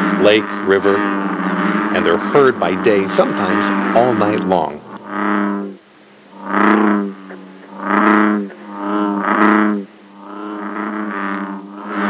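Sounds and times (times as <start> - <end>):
bullfrog calling: 0.0 - 12.0.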